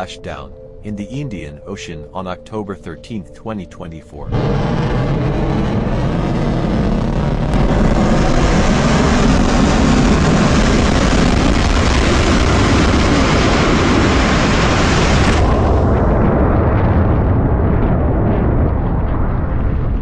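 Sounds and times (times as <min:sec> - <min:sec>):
rocket engines rumbling: 0:00.0 - 0:20.0.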